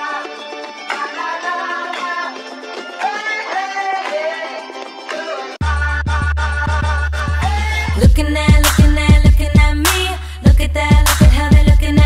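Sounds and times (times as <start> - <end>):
hip-hop music: 0.0 - 12.0.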